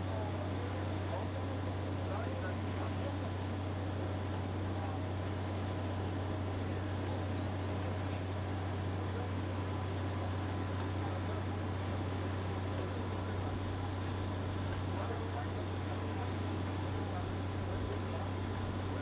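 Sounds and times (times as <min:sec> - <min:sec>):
diesel pump engines droning: 0:00.0 - 0:19.0.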